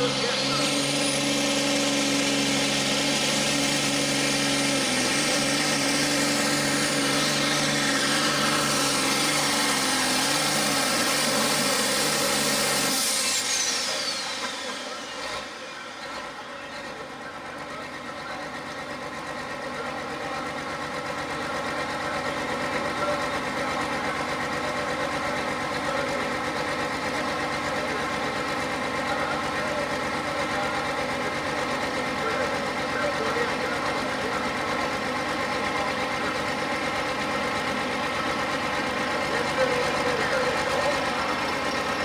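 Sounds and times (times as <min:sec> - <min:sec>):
diesel engine idling: 0:00.0 - 0:42.0
diesel tractor engine winding down: 0:00.0 - 0:42.0.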